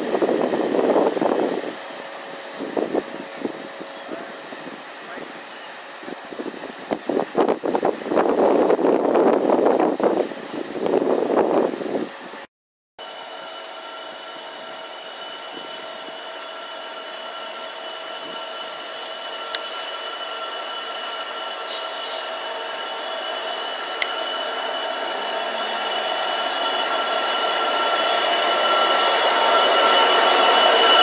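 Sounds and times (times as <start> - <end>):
diesel locomotive approaching: 0.0 - 31.0.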